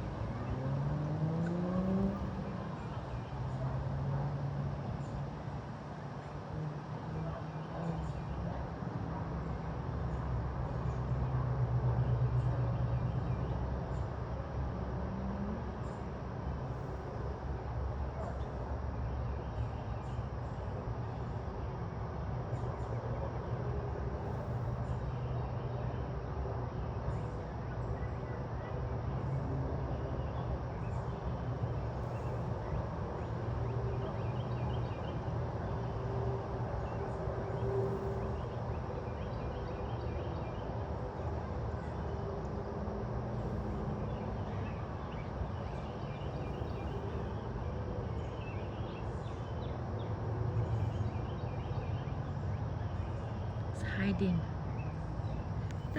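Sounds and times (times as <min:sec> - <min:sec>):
low outdoor rumble: 0:00.0 - 0:55.9.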